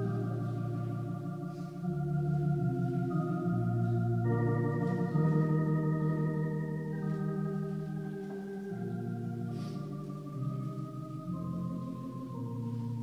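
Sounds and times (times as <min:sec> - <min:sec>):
organ playing sustained chords: 0:00.0 - 0:13.0.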